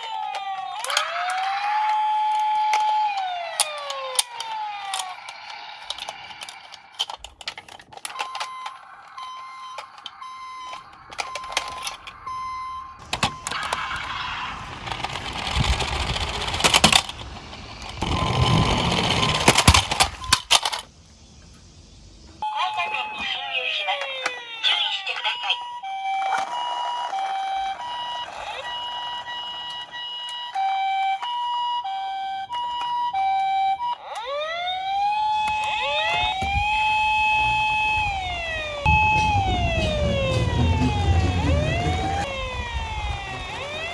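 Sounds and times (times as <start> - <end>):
toy siren wailing: 0.0 - 20.8, 22.4 - 43.9
toy cars rolling on plastic: 0.0 - 20.9, 23.9 - 31.8, 32.5 - 43.9.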